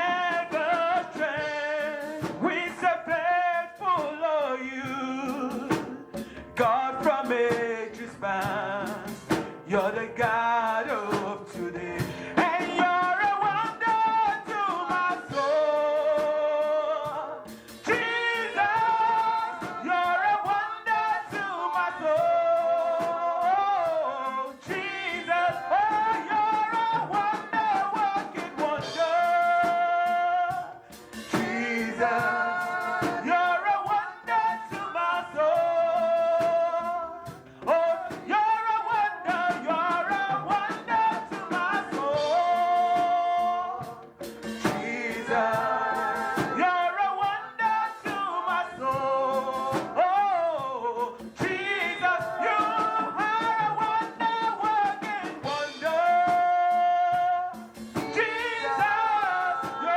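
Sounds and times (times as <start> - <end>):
band accompaniment: 0.0 - 59.9
gospel singing with long notes: 0.0 - 59.9
steady drum hits: 0.0 - 59.9.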